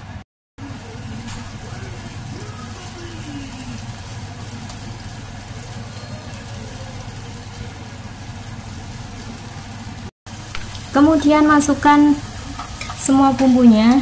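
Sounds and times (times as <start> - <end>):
paste sizzling in hot oil: 0.6 - 14.0.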